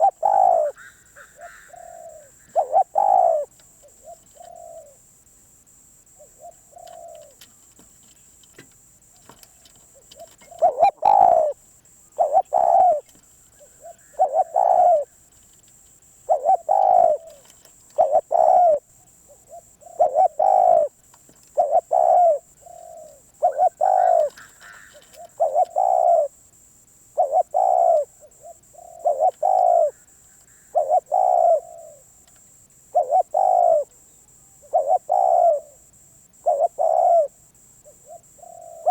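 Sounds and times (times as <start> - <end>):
dove cooing: 0.0 - 5.1, 6.1 - 7.9, 9.2 - 15.2, 16.2 - 26.4, 27.1 - 32.2, 32.9 - 38.9.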